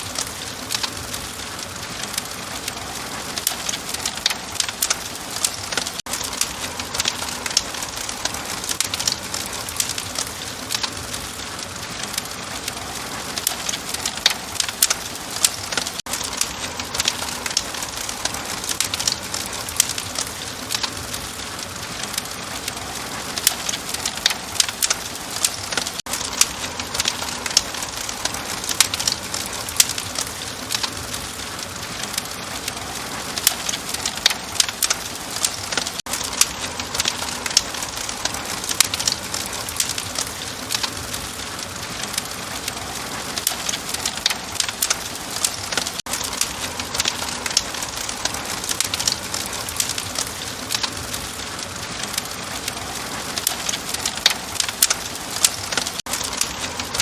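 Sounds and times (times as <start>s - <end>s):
fire popping and snapping: 0.0s - 57.0s
wood fire hissing: 0.0s - 57.0s.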